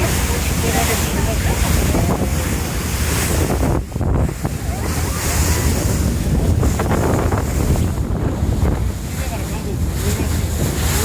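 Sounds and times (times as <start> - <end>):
rushing water: 0.0 - 11.0
wind buffeting microphone: 0.0 - 11.0.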